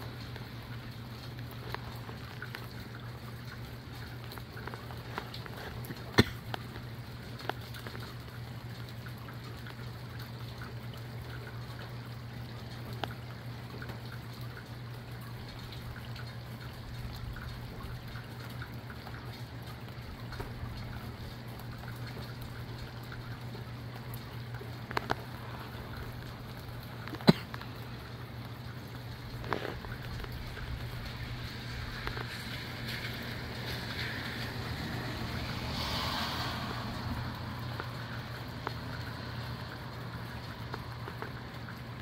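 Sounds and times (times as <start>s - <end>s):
steady rain: 0.0s - 42.0s
water trickling and dripping: 0.0s - 42.0s.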